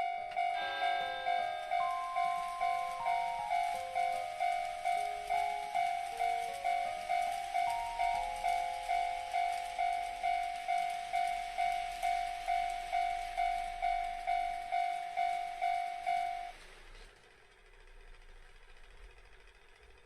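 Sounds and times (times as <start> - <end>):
toy level crossing bell ringing: 0.0 - 16.6.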